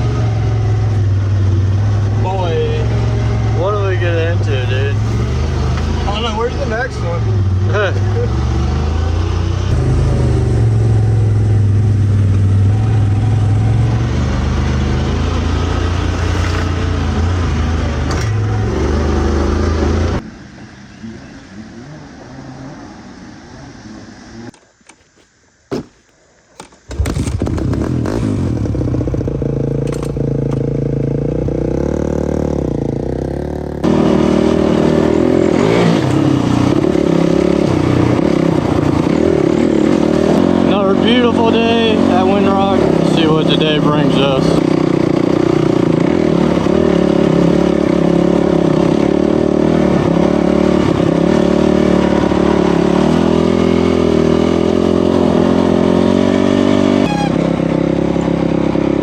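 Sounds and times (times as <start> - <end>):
off-road vehicle engines running: 0.0 - 24.6, 26.8 - 59.0.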